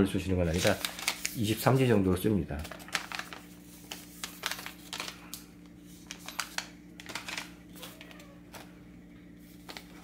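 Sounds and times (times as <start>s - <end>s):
plastic packs crinkling: 0.1s - 8.8s, 9.5s - 10.0s.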